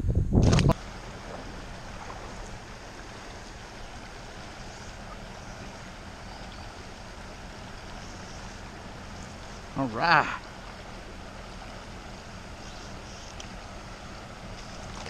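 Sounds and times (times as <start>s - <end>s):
river flowing over rocks: 0.8s - 15.0s.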